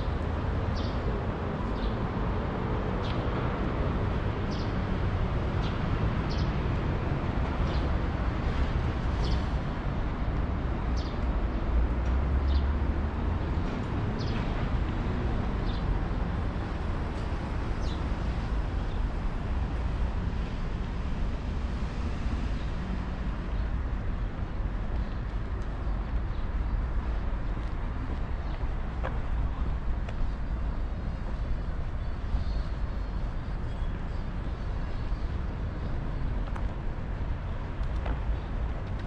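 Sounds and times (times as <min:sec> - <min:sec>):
city traffic rumble: 0:00.0 - 0:39.0.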